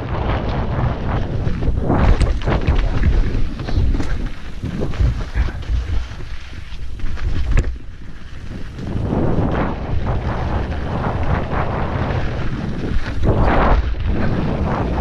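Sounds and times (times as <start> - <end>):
bike rattling over rough trail: 0.0 - 15.0
wind buffeting microphone: 0.0 - 15.0.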